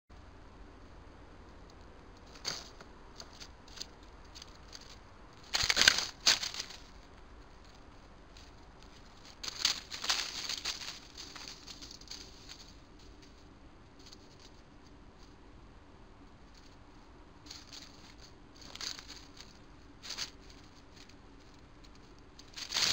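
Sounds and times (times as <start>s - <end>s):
rodents scurrying through dry leaves: 2.2s - 15.5s, 16.3s - 22.9s.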